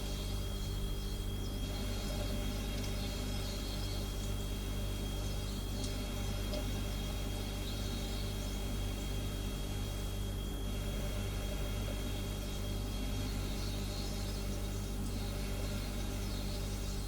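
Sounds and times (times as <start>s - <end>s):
faint high whine: 0.0s - 17.0s
refrigerator humming: 0.0s - 17.0s.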